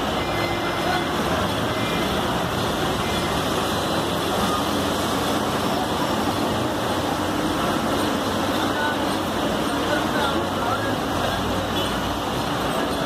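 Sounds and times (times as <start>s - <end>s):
bus engines running: 0.0s - 13.0s
busy street traffic: 0.0s - 13.0s.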